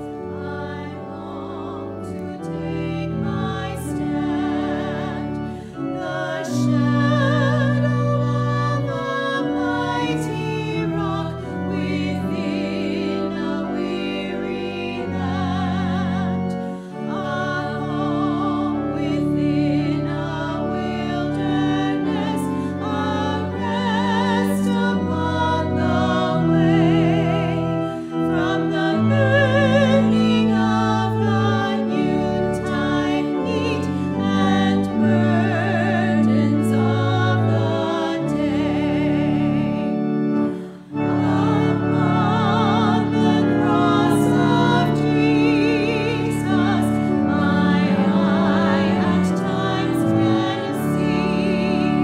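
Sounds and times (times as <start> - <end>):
sustained low accompaniment notes: 0.0 - 52.0
women singing a hymn: 0.0 - 52.0.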